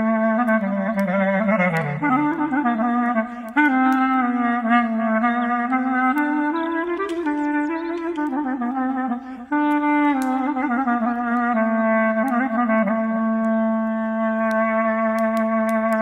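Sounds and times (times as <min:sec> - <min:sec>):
campfire crackling: 0:00.0 - 0:16.0
solo clarinet melody: 0:00.0 - 0:16.0.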